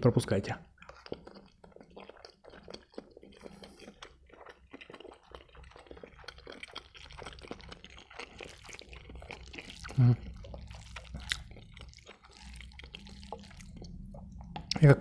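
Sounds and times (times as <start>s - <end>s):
chewing food: 0.6s - 14.9s.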